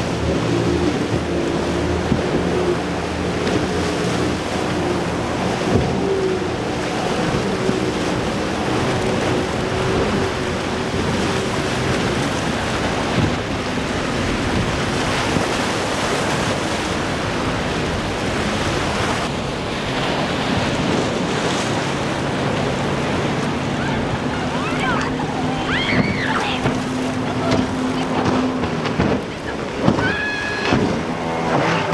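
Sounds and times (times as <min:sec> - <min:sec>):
boat engines running: 0:00.0 - 0:31.9
waves and surf: 0:00.0 - 0:31.9
wind buffeting microphone: 0:00.0 - 0:31.9.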